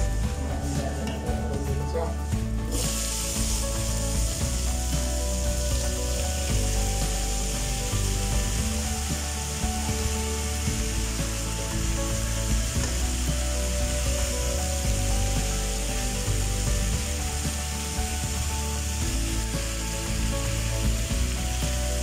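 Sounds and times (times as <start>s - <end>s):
background music: 0.0s - 22.0s
chicken sizzling in oil: 0.0s - 22.0s.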